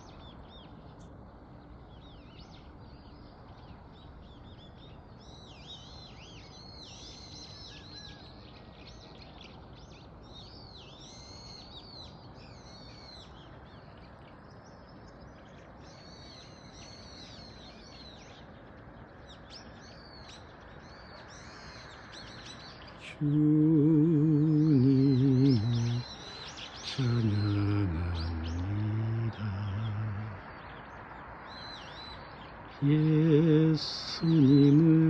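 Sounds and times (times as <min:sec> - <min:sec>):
small birds chirping: 0:00.0 - 0:35.0
steady low hiss: 0:00.0 - 0:35.0.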